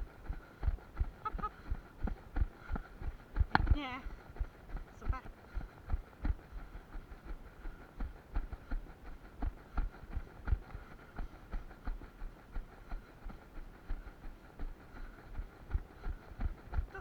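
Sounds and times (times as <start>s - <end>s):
footsteps of runner on trail: 0.0s - 17.0s.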